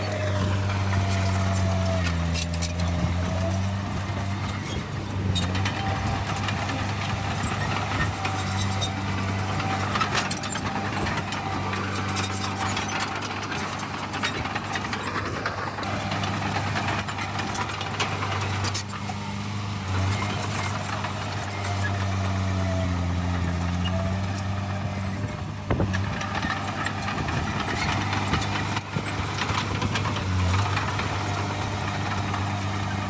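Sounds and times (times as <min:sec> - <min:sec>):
metallic clanks and rattles: 0:00.0 - 0:19.2, 0:19.9 - 0:33.0
heavy diesel engine running: 0:00.0 - 0:33.0.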